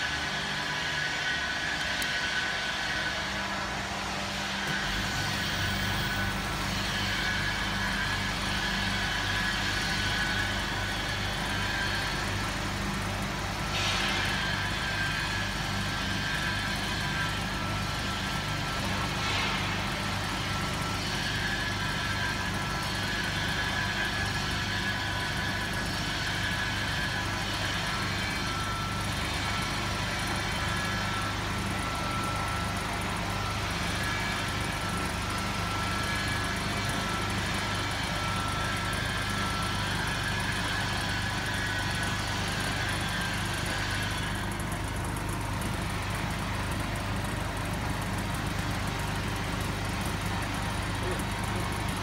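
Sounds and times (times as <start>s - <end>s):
mixer motor hum with whine: 0.0s - 52.0s.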